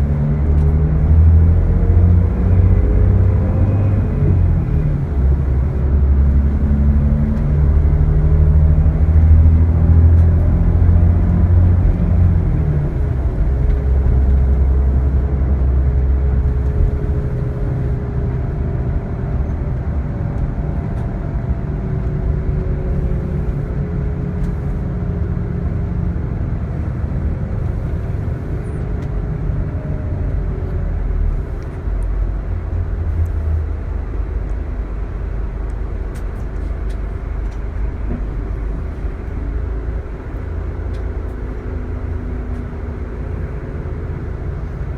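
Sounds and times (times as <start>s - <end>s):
bus diesel engine droning: 0.0s - 44.9s.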